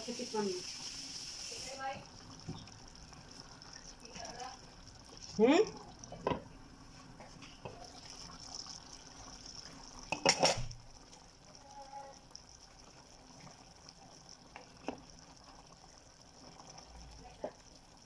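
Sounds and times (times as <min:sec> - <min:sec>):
stew simmering with faint hiss: 0:00.0 - 0:18.0.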